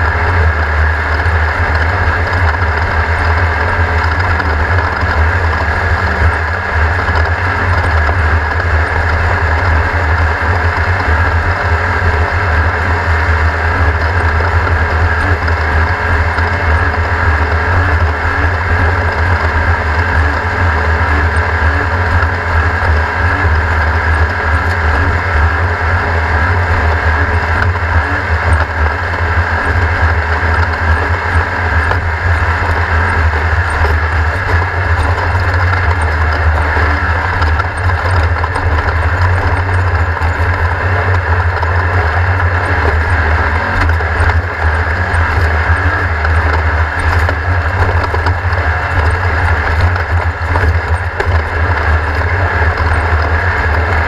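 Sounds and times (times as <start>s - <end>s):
race car engine rumbling: 0.0s - 54.0s.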